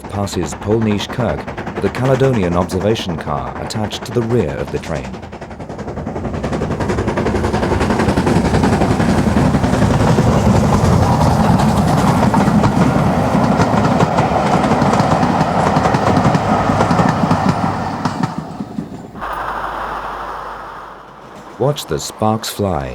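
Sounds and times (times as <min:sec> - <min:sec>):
steam locomotive exhaust beats: 0:00.0 - 0:22.9
wheels clattering on rails: 0:00.0 - 0:22.9.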